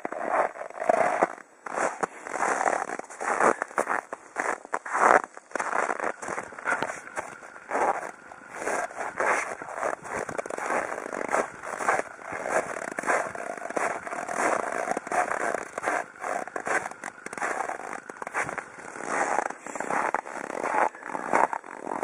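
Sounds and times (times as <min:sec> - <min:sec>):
footsteps crunching through snow: 0:00.0 - 0:22.0.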